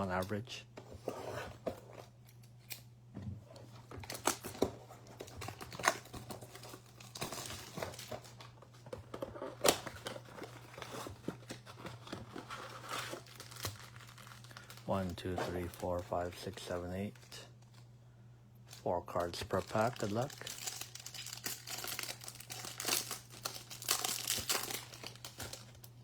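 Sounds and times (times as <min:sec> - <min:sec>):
steady low hum: 0:00.0 - 0:21.7
packaging tearing and crinkling: 0:04.0 - 0:17.8, 0:18.7 - 0:26.0.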